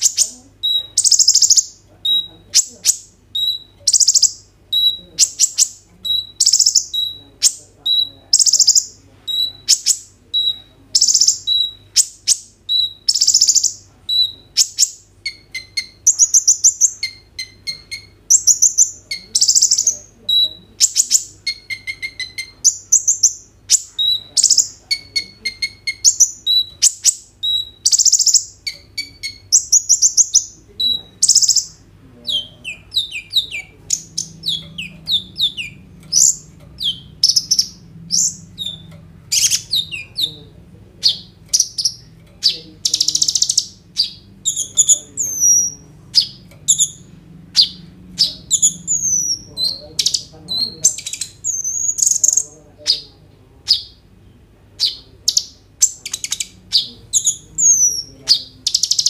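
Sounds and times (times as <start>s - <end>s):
bird singing with rattling trill: 0.0s - 53.1s, 54.8s - 59.0s.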